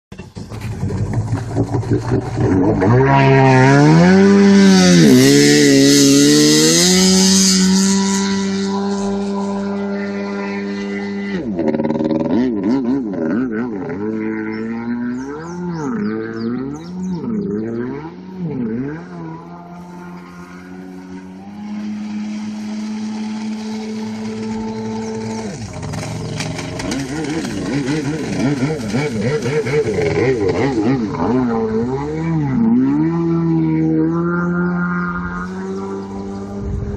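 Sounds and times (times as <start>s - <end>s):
personal watercraft engine running: 0.3s - 12.6s, 13.2s - 36.8s.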